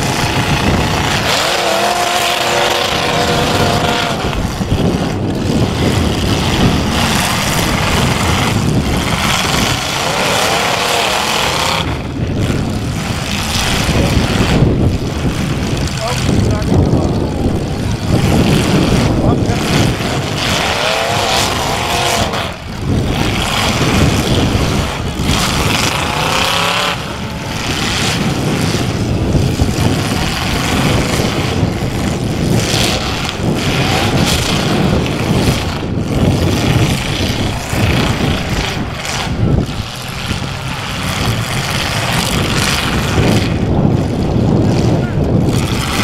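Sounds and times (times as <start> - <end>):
car engines revving hard: 0.0 - 46.0.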